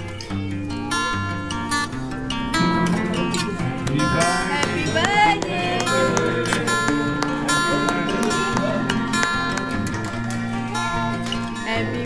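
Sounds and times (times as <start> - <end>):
music with strummed guitar: 0.0 - 12.0.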